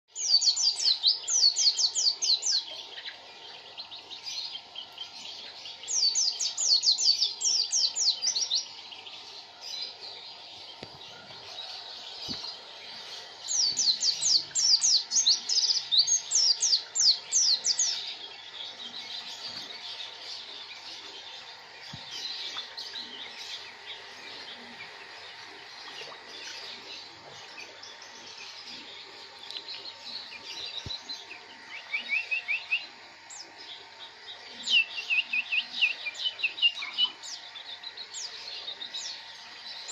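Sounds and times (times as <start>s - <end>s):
soft bird chirping: 0.1s - 39.9s.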